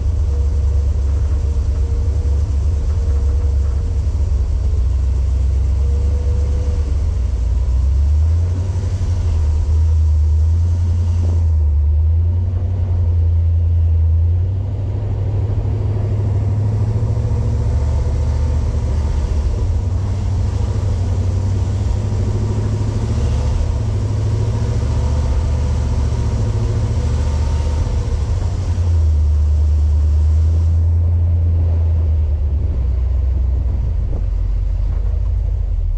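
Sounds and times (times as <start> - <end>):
vehicle engine low rumble: 0.0 - 35.9.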